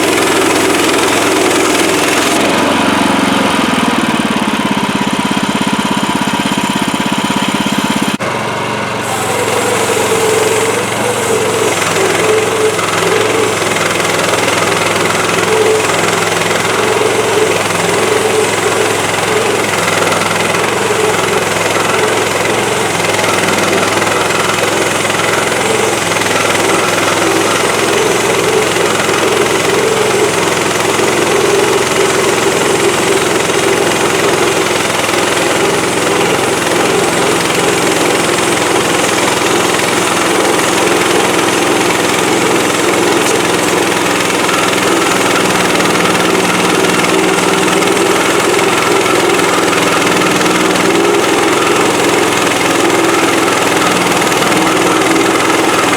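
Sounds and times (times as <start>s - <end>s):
gasoline engine running: 0.0s - 55.9s.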